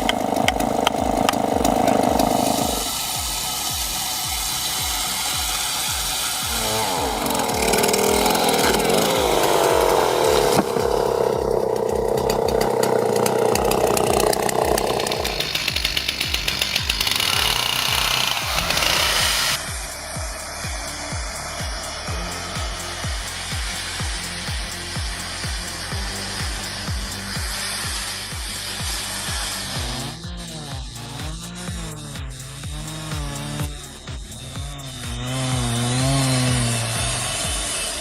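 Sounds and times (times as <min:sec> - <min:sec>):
background music with steady beat: 0:00.0 - 0:38.0
chainsaw running: 0:00.0 - 0:38.0.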